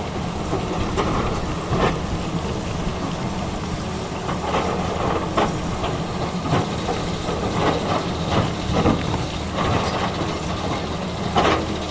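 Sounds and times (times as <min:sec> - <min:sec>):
excavator diesel engine running: 0:00.0 - 0:11.9.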